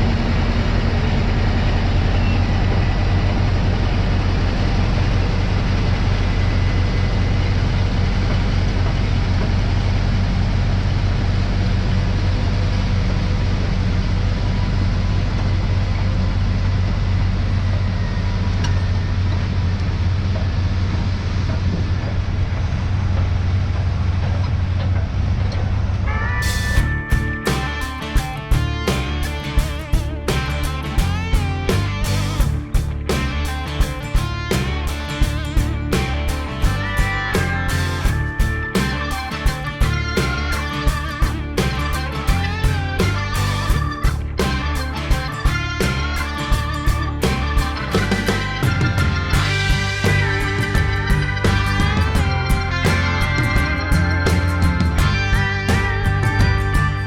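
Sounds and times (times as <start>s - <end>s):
bulldozer diesel engines droning: 0.0s - 57.0s.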